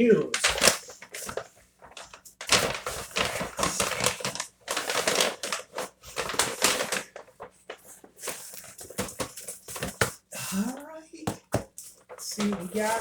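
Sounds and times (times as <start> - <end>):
packaging rustling and crinkling: 0.2 - 10.3, 11.3 - 13.0.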